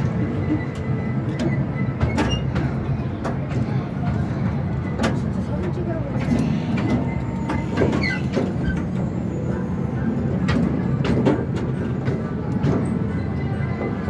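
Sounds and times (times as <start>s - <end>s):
small train rumbling: 0.0s - 14.0s.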